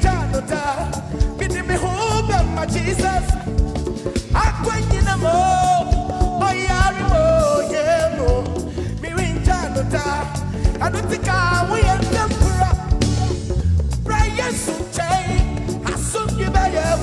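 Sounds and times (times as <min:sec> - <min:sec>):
bass and drum groove: 0:00.0 - 0:17.0.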